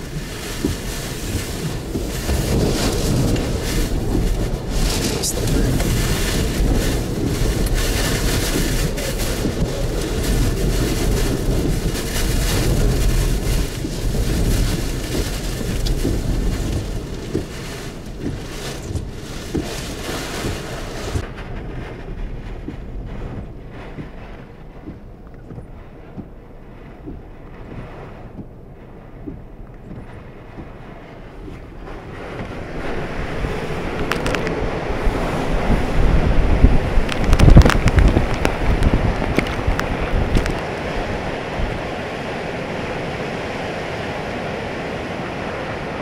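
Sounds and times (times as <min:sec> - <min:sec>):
driving rain: 0:00.0 - 0:46.0
strong wind on microphone: 0:00.0 - 0:46.0.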